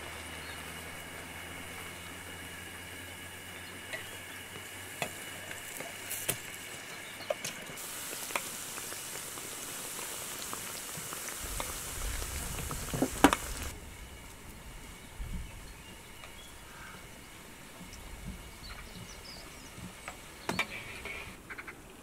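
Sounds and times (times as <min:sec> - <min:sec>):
dough deep-frying in oil: 0:00.0 - 0:21.6.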